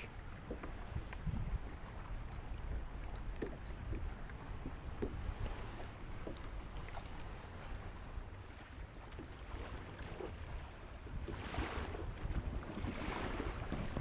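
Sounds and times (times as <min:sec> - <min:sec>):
waves lapping against a hull: 0:00.0 - 0:14.0
wind rumbling on microphone: 0:00.0 - 0:14.0.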